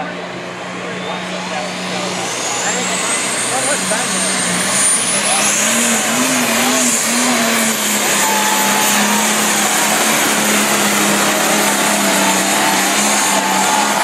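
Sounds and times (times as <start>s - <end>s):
tractor engine running flat out: 0.8s - 14.0s.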